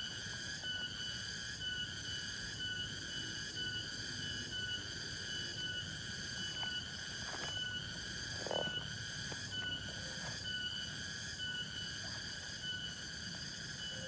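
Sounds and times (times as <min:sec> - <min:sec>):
forest insects whining: 0:00.0 - 0:14.0.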